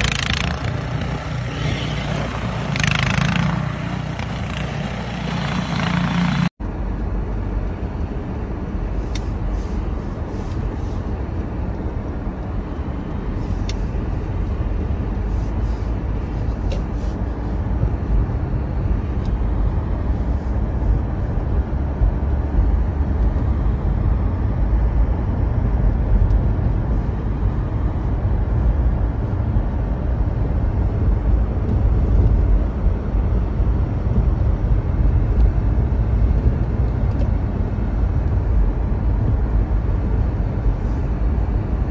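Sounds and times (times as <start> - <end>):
car tyres and engine rumble: 0.0 - 41.9.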